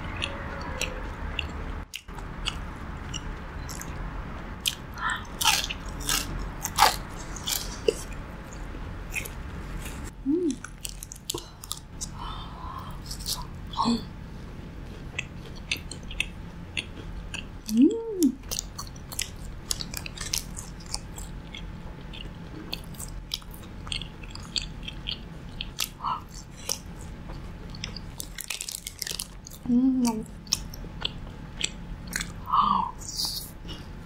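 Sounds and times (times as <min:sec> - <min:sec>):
chewing crispy fried pork: 0:00.0 - 0:34.0
closed-mouth hum: 0:00.0 - 0:34.0.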